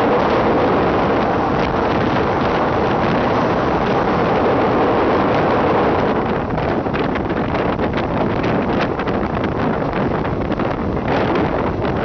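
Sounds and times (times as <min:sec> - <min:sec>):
moving passenger train: 0:00.0 - 0:12.0
wind rushing over microphone: 0:00.0 - 0:12.0.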